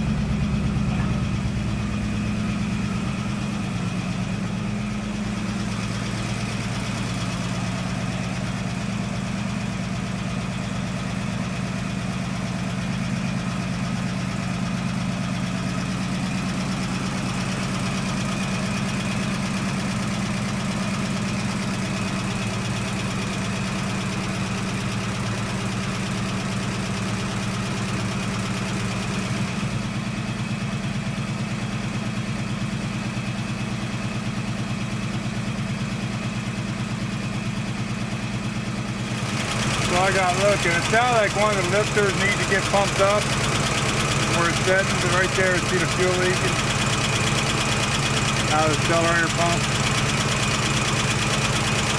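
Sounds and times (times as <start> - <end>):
car engine idling: 0.0 - 51.9
engine ticking: 0.0 - 51.9.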